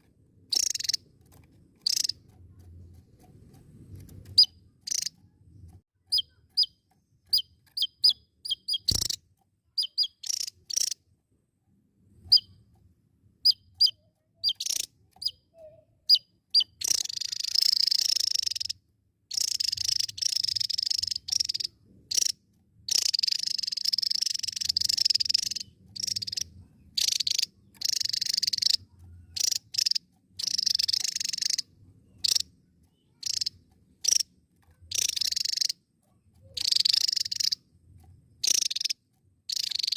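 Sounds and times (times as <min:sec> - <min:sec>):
bird chirping and trilling: 0:00.4 - 0:02.3, 0:04.0 - 0:05.3, 0:06.0 - 0:11.0, 0:12.2 - 0:12.6, 0:13.4 - 0:39.9.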